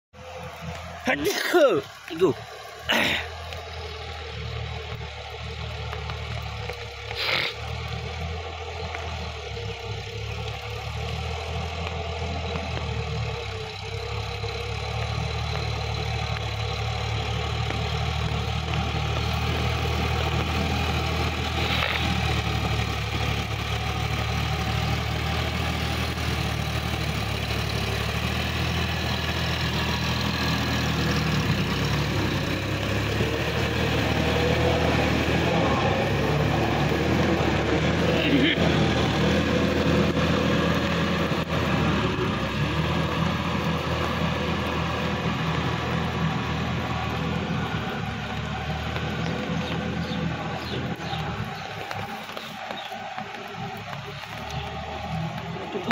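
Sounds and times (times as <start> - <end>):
tractor diesel engine running: 0.1 - 55.9.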